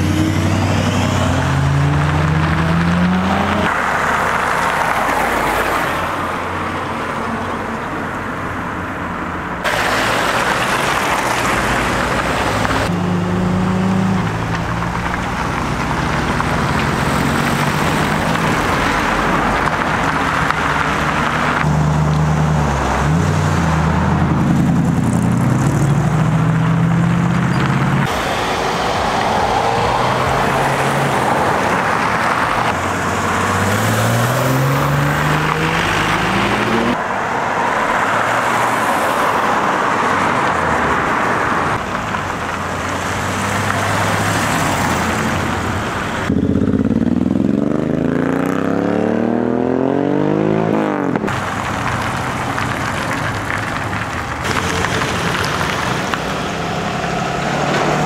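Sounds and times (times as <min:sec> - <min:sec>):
car engines revving and accelerating: 0:00.0 - 0:58.0.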